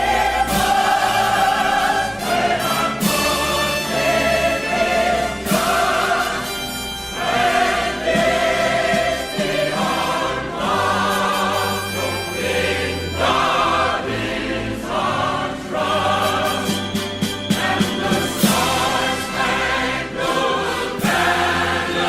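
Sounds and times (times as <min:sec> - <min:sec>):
choir singing held chords: 0:00.0 - 0:22.0
sustained low accompaniment: 0:00.0 - 0:22.0.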